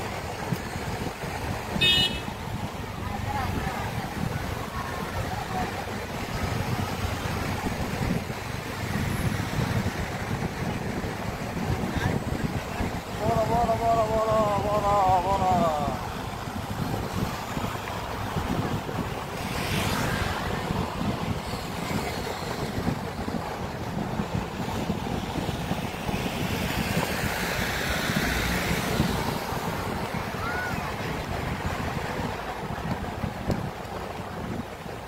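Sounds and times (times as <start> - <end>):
passing traffic: 0.0 - 35.0
vehicle road noise: 0.0 - 35.0
wind buffeting microphone: 0.0 - 35.0.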